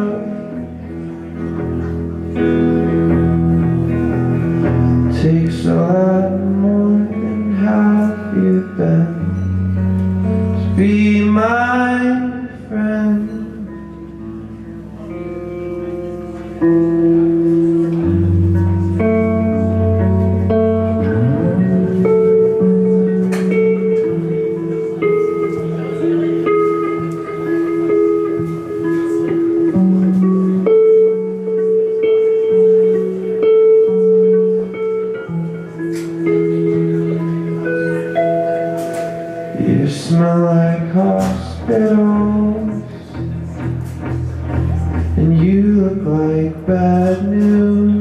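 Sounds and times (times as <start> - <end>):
guitar playing ringing notes: 0.0 - 48.0.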